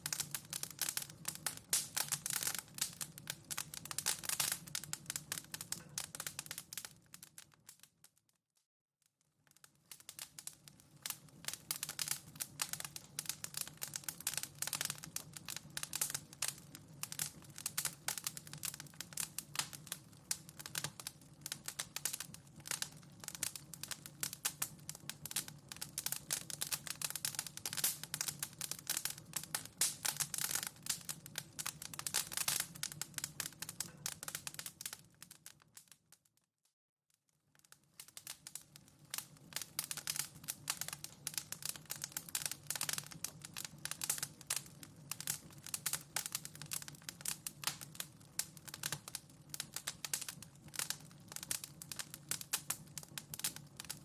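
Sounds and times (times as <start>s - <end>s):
fireplace fire crackling: 0.0s - 8.2s, 9.5s - 36.1s, 37.6s - 54.0s.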